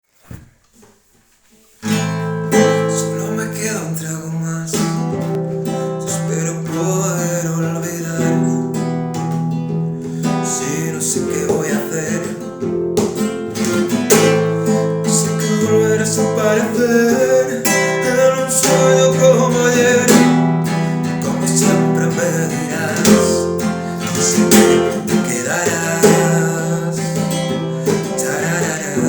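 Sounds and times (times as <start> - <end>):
acoustic guitar strumming: 1.5 - 29.0.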